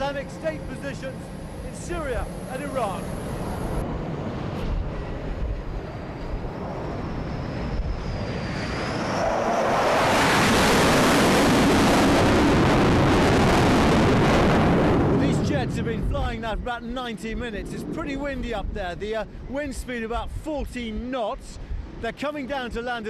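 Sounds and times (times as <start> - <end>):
wind rumbling on microphone: 0.0 - 22.9
jet engine noise: 0.0 - 23.0.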